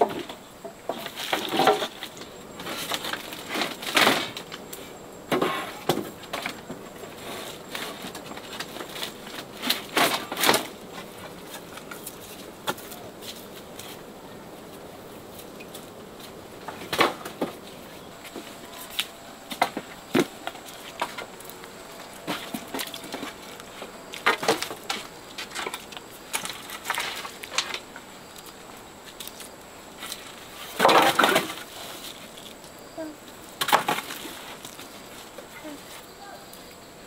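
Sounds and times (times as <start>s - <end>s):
wooden poles knocking and clattering: 0.0s - 4.6s, 5.3s - 14.0s, 15.6s - 29.4s, 30.0s - 32.6s, 33.6s - 35.5s.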